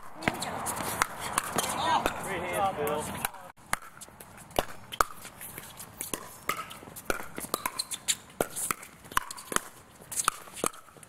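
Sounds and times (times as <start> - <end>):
paddles hitting plastic ball: 0.0 - 2.3, 2.9 - 11.0.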